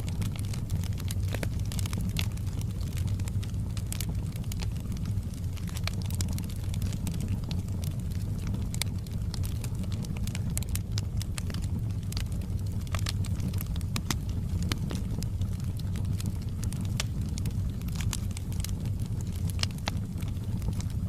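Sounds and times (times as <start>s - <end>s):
burning wood crackling and popping: 0.0s - 21.0s
fire flames rumbling: 0.0s - 21.0s.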